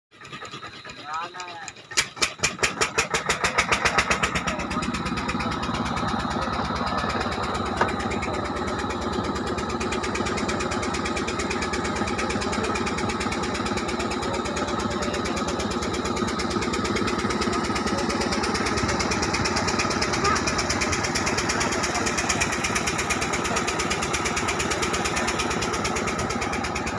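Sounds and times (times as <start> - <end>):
boat engine chugging: 0.1 - 26.9.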